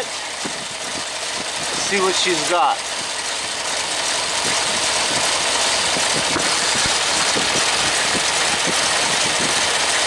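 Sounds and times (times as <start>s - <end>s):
car engine idling roughly: 0.0s - 10.0s.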